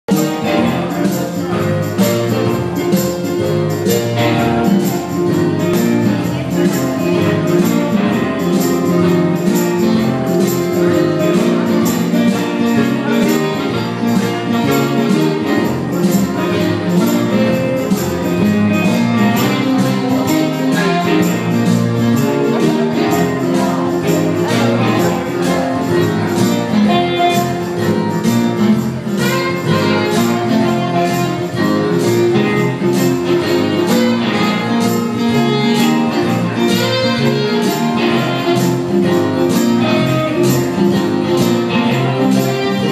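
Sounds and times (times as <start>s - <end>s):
keyboard: 0.0s - 42.9s
band playing dance music: 0.1s - 42.9s
electric guitar: 0.1s - 42.9s
saxophone: 0.1s - 42.9s.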